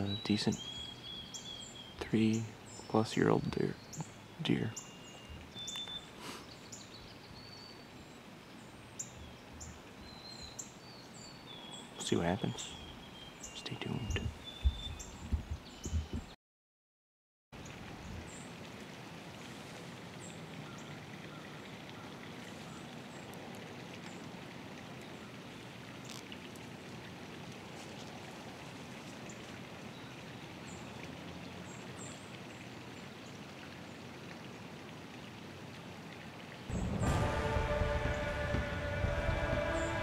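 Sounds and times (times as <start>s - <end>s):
faint outdoor hiss: 0.0s - 16.3s, 17.6s - 40.0s.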